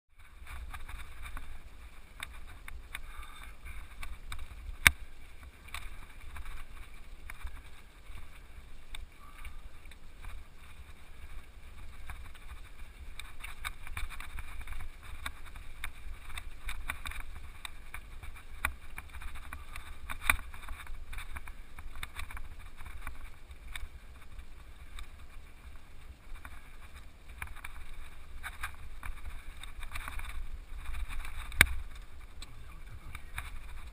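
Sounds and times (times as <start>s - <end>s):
bike rattling: 0.1s - 33.9s
wind rumble on microphone: 0.1s - 33.9s.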